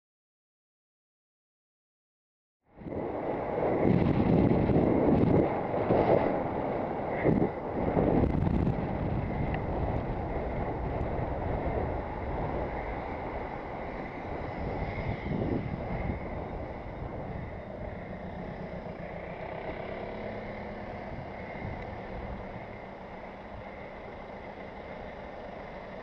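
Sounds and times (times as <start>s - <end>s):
wind buffeting microphone: 2.7s - 26.0s
passing cars: 2.8s - 26.0s.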